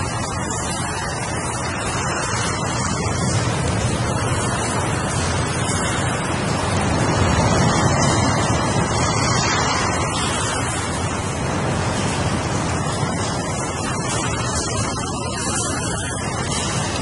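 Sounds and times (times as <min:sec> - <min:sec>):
ocean waves washing: 0:00.0 - 0:17.0.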